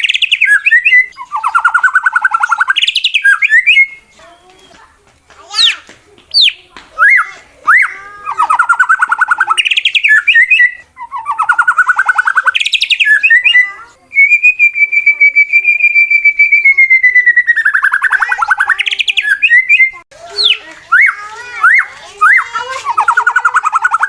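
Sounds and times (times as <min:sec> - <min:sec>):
songbird whistles and trills: 0:00.0 - 0:04.9, 0:05.5 - 0:24.0.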